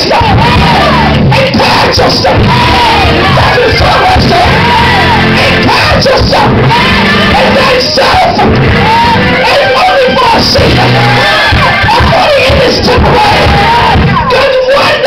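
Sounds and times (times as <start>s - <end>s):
congregation singing: 0.0s - 15.0s
live church music: 0.0s - 15.0s
voices singing and shouting: 0.0s - 15.0s.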